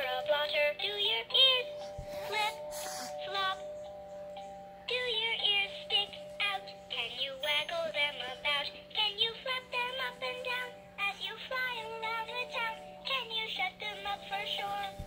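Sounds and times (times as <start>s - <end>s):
synthetic voice singing toy song: 0.0s - 4.0s, 4.9s - 15.0s.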